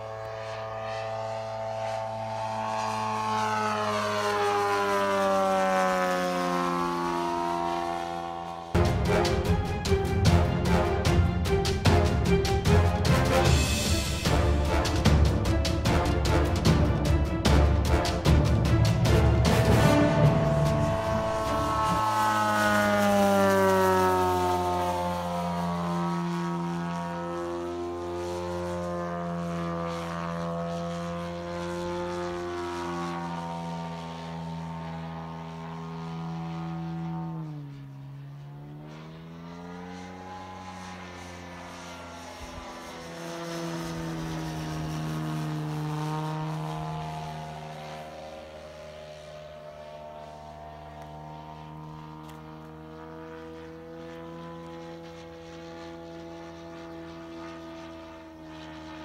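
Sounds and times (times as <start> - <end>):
model plane engine droning: 0.0 - 59.0.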